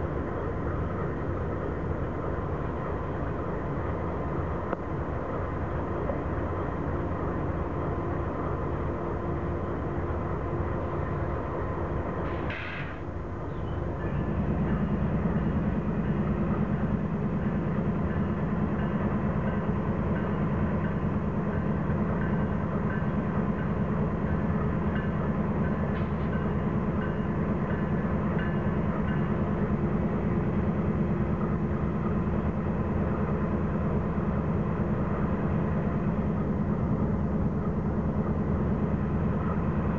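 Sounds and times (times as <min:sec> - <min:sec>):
diesel locomotive passing: 0:00.0 - 0:39.9.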